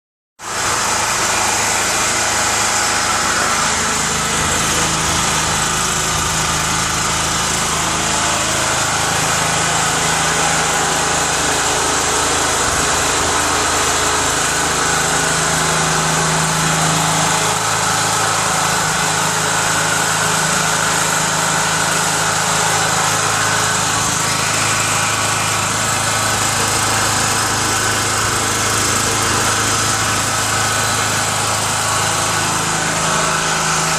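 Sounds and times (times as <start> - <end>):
petrol generator running: 0.4 - 33.9.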